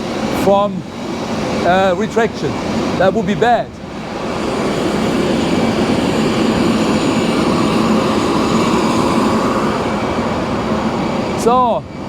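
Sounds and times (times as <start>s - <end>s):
faint whine: 0.0s - 12.0s
jet turbine noise: 0.0s - 12.0s.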